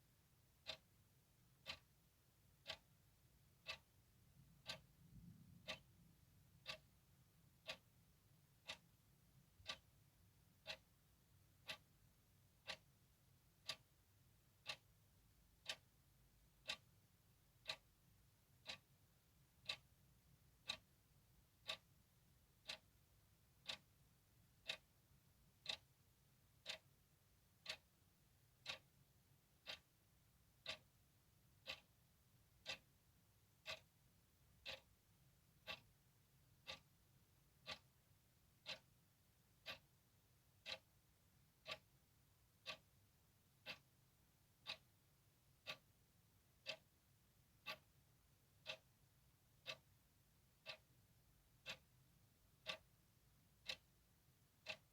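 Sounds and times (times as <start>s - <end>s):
clock ticking: 0.2s - 54.9s.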